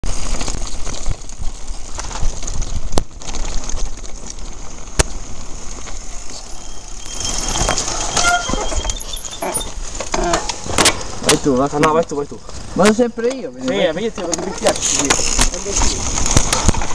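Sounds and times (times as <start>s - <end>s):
bike rattling: 0.0s - 16.9s
tyres rumbling on loose stones: 0.0s - 16.9s.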